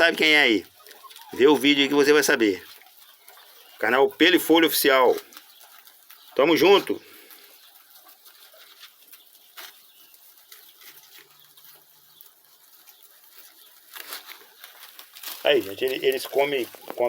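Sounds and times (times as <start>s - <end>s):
guinea pigs chewing: 0.0s - 17.0s
guinea pigs rustling in grass: 0.0s - 17.0s.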